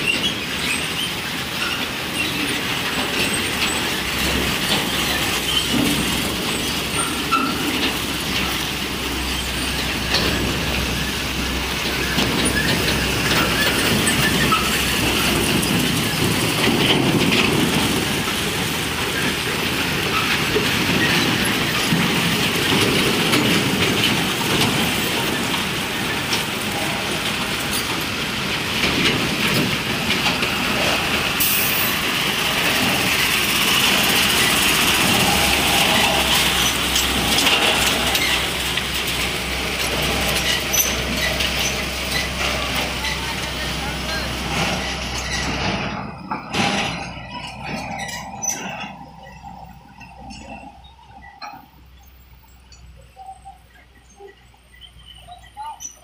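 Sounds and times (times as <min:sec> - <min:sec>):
heavy diesel machinery noise: 0:00.0 - 0:56.0
road traffic: 0:00.0 - 0:56.0.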